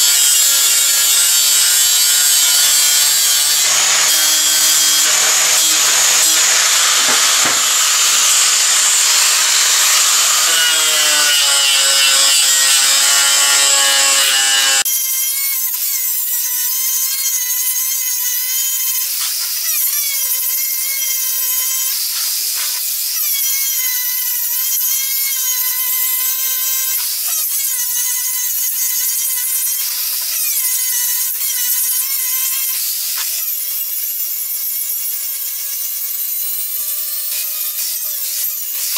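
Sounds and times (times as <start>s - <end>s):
angle grinder screeching on steel: 0.0s - 38.9s.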